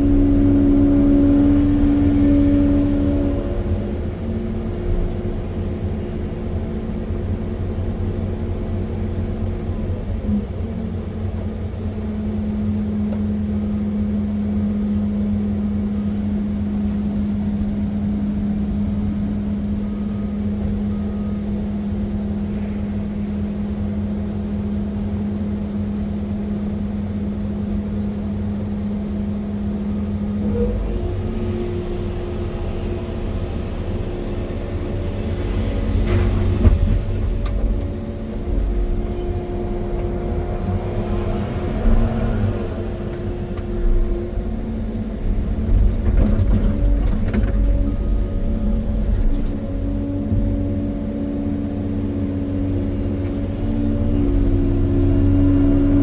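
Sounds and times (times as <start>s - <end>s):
excavator engine rumbling: 0.0s - 56.0s.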